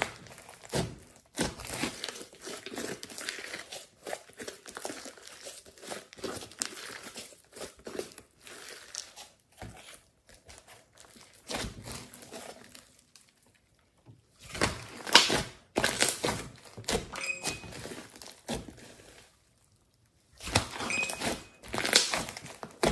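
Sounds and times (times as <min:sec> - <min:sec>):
slime crackling and squishing: 0:00.0 - 0:22.9.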